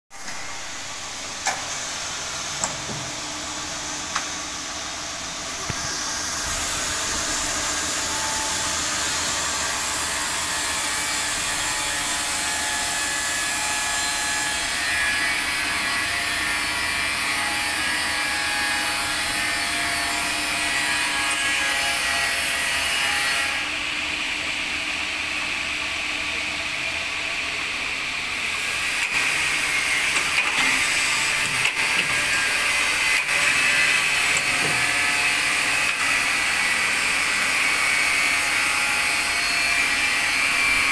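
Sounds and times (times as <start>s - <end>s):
band saw cutting metal: 5.6s - 25.7s, 26.3s - 40.9s.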